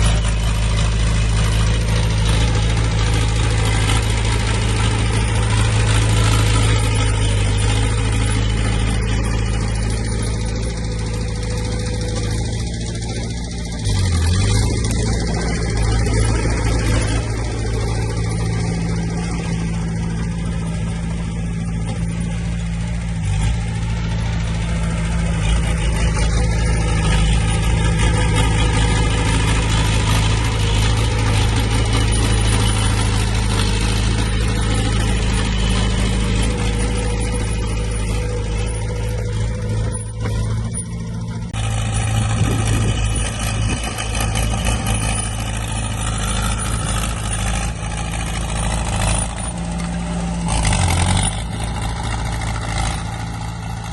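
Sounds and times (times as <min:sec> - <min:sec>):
diesel engine under load: 0:00.0 - 0:53.9.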